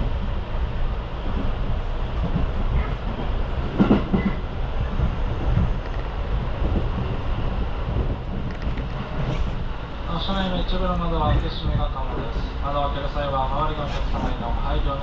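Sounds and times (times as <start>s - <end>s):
train wheels rumbling on rails: 0.0s - 15.0s
train clatter: 1.2s - 15.0s.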